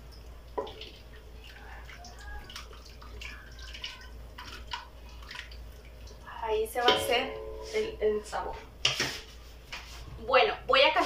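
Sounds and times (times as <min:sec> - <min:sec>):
food sloshing and sizzling: 0:00.0 - 0:10.2.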